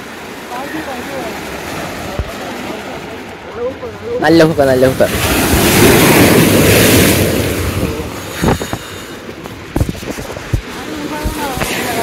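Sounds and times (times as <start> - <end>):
wave crashing against seawall: 0.0 - 12.0.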